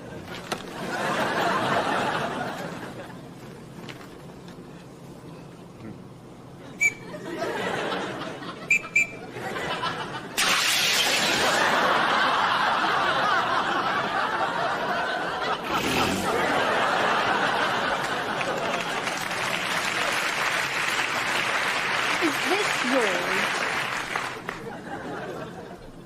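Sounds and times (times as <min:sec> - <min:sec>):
audience laughing: 0:00.0 - 0:03.3, 0:06.6 - 0:26.0.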